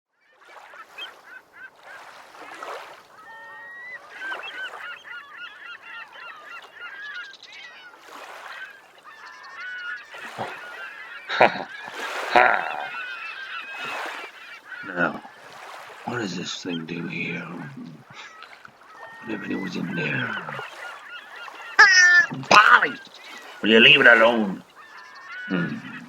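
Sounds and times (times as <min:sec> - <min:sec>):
birds squawking and chirping: 0:00.6 - 0:26.0.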